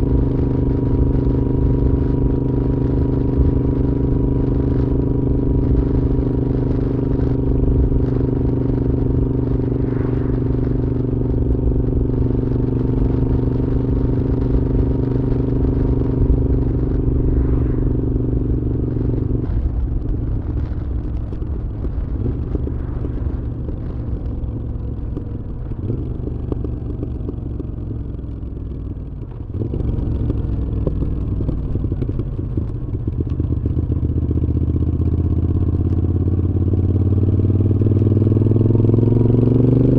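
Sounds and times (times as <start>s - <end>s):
motorcycle v-twin engine running: 0.0s - 39.9s.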